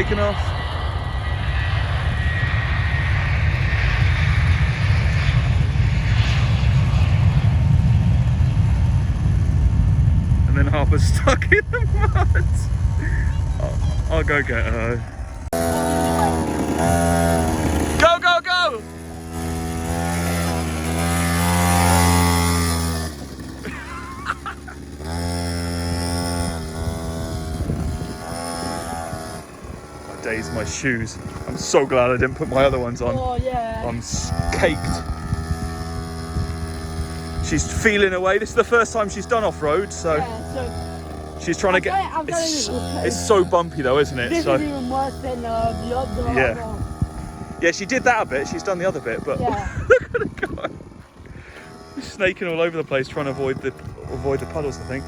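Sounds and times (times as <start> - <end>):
aeroplane taking off: 0.0 - 55.0
quad bike engine revving: 10.5 - 55.0.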